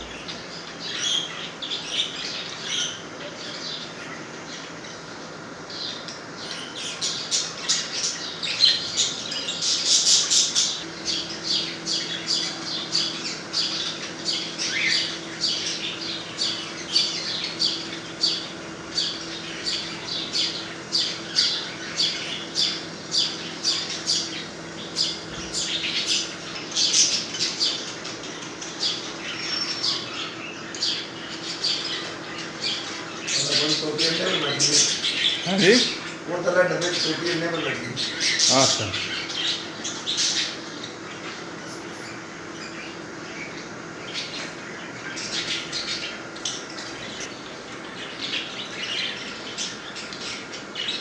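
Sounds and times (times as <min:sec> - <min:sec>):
parrots squawking and chirping: 0:06.5 - 0:51.0.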